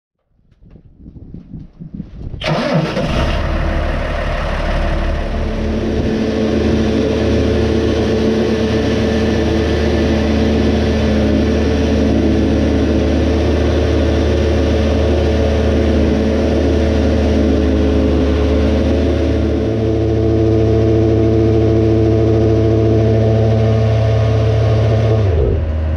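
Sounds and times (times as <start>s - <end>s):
tractor diesel engine starting: 2.3s - 25.9s.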